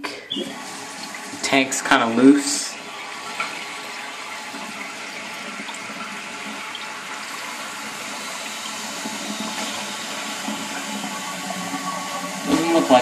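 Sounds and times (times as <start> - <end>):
toilet tank filling with water: 0.0 - 13.0.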